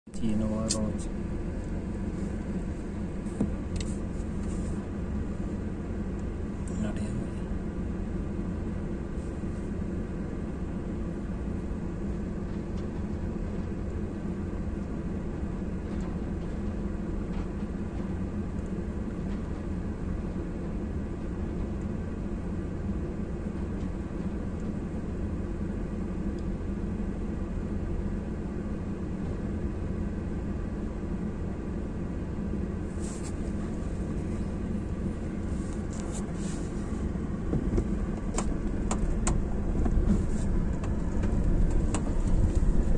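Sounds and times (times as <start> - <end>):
engine droning: 0.1 - 42.9.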